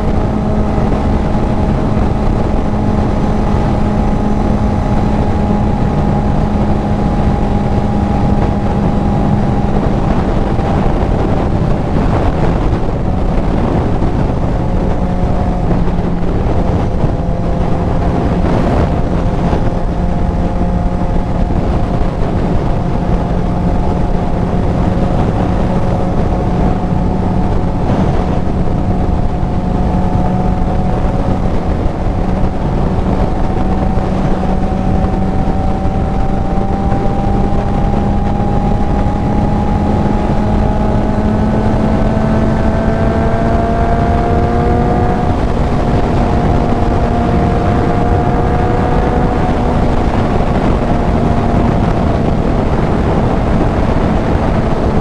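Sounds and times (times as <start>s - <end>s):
motorcycle engine cruising: 0.0s - 55.0s
wind rush on microphone: 0.0s - 55.0s.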